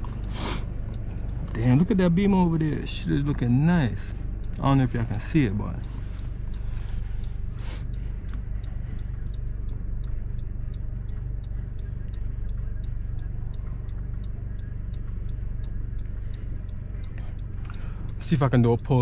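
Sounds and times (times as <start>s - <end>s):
car engine running steadily: 0.0s - 19.0s
turn signal ticking: 0.0s - 19.0s.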